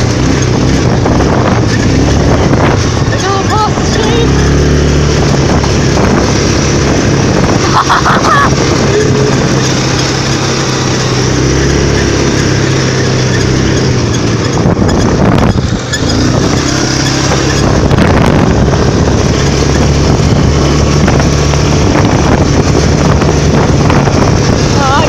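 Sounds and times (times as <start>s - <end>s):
atv engine running: 0.0s - 25.0s
wind buffeting microphone: 0.0s - 25.0s.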